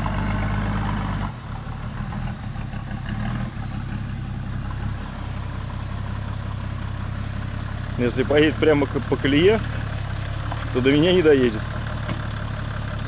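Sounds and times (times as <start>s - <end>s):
vehicle engine running slowly: 0.0s - 13.0s.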